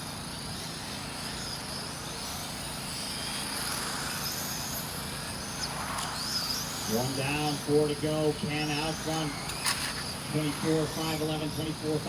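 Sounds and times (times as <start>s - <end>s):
rc car motor whines: 0.0s - 12.0s.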